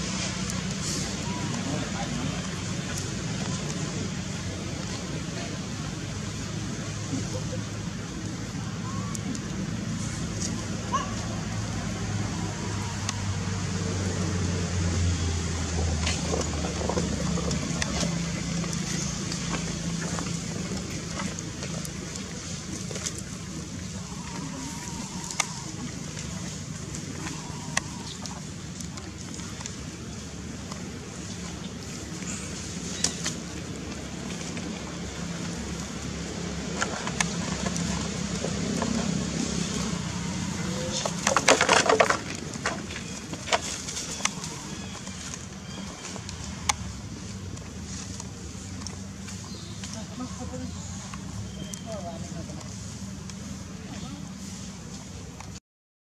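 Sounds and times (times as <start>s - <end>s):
vehicle engine humming: 0.0s - 55.6s
dry leaves crackling: 9.0s - 55.4s.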